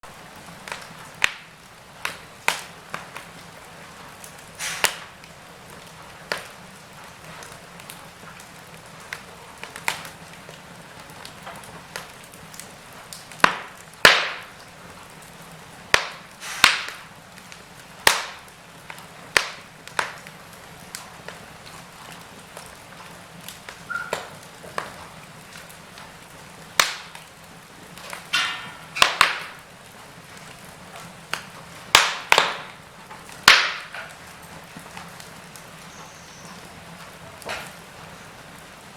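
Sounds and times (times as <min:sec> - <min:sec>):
low steady hiss: 0:00.0 - 0:38.9
wood fire crackling and popping: 0:00.0 - 0:38.9.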